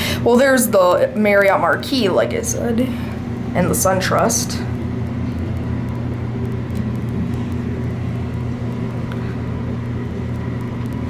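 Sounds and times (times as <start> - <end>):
elevator hum and rush: 0.0 - 11.0.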